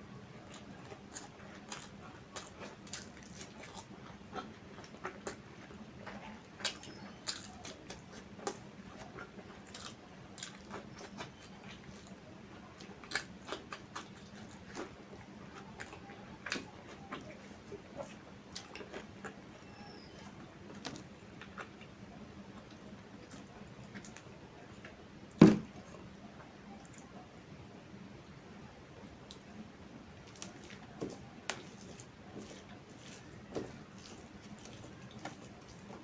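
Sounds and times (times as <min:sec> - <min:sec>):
person chewing food: 0:00.4 - 0:26.0, 0:30.1 - 0:36.0.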